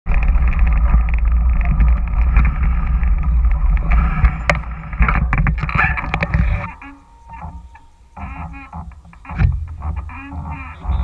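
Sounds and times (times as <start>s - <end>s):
bike rattling over ground: 0.0s - 11.0s
wind buffeting microphone: 0.0s - 11.0s
sharp knocks: 1.7s - 11.0s.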